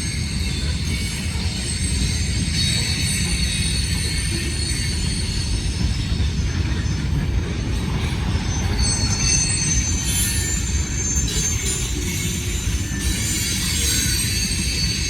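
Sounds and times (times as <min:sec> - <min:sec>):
steel wheel squeal: 0:00.0 - 0:15.0
train wheels rumbling on rail: 0:00.0 - 0:15.0.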